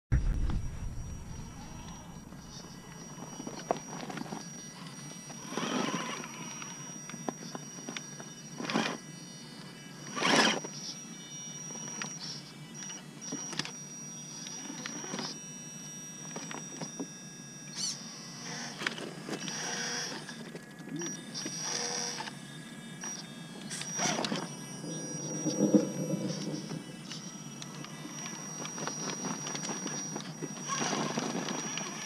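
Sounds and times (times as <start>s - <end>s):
electric motor whining under load: 0.2s - 32.0s.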